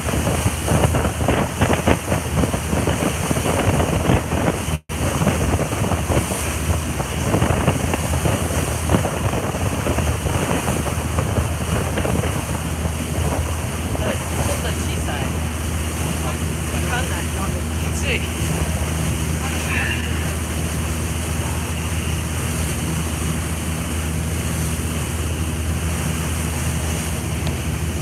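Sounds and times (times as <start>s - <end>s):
boat engine drone: 0.0s - 28.0s
churning wake water: 0.0s - 28.0s
wind buffeting microphone: 0.0s - 28.0s.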